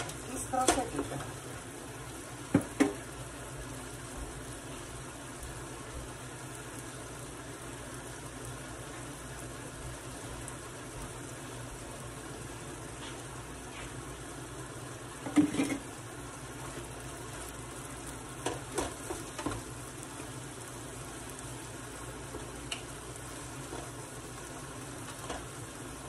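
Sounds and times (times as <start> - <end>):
chicken sizzling in a frying pan: 0.0 - 26.0.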